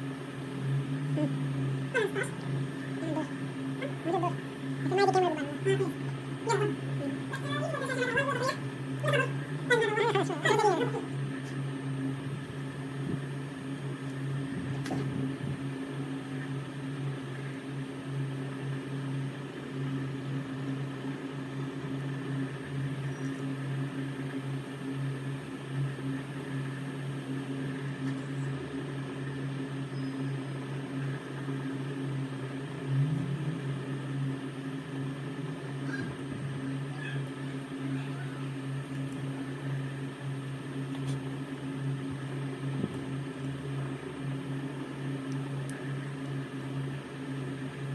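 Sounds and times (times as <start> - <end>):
small motor hum: 0.0 - 47.9.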